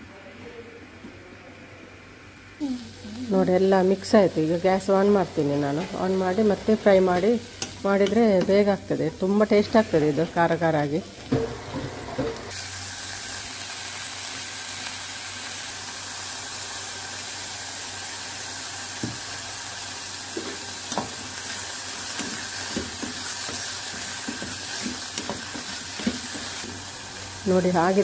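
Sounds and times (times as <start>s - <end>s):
mushrooms sizzling in pan: 2.6s - 28.0s.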